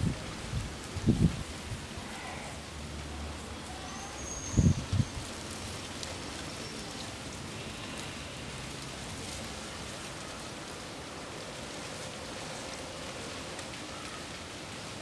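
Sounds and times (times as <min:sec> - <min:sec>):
steady wind blowing: 0:00.0 - 0:03.7, 0:04.5 - 0:15.0.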